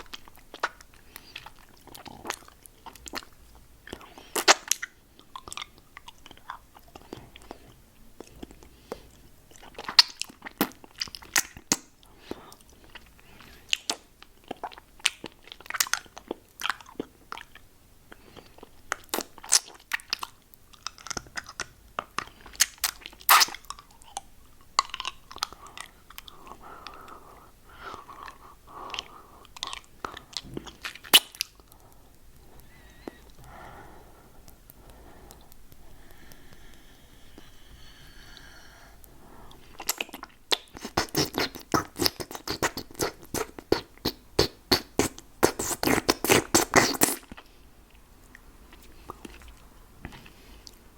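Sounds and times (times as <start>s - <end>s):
lollipop licking and crunching: 0.0s - 27.2s, 27.9s - 33.5s, 39.0s - 47.5s.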